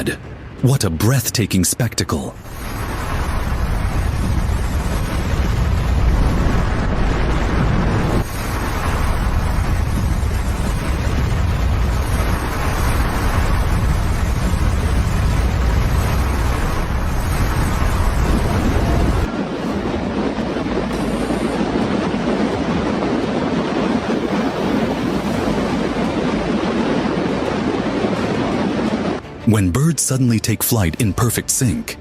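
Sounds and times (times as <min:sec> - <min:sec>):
avalanche snow rushing: 0:02.1 - 0:31.9
wind buffeting microphone: 0:02.4 - 0:29.2.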